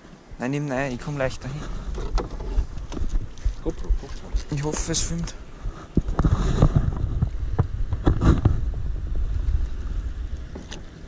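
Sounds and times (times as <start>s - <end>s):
water sloshing and splashing: 0.0s - 11.0s
wind rumble on microphone: 0.2s - 11.0s.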